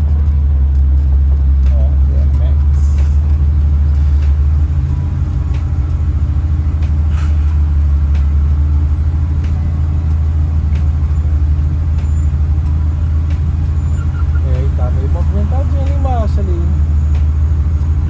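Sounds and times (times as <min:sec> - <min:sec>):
vehicle engine and road drone: 0:00.0 - 0:18.0.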